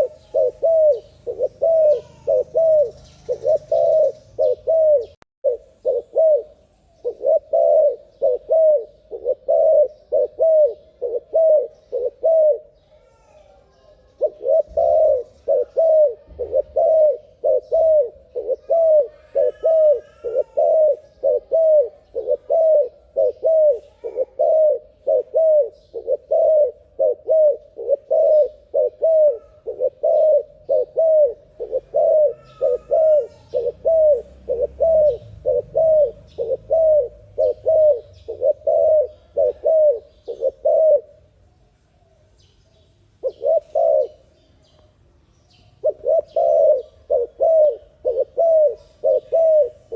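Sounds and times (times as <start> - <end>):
turtle dove cooing: 0.0 - 41.4, 43.1 - 44.8, 45.5 - 49.9
faint bird chirps: 0.0 - 49.9.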